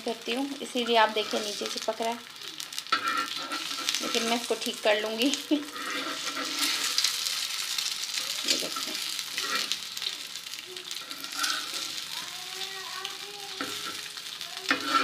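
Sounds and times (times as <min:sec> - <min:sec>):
egg sizzling in pan: 0:00.0 - 0:15.0
spatula scraping pan: 0:00.1 - 0:02.1, 0:02.8 - 0:10.3, 0:10.9 - 0:15.0.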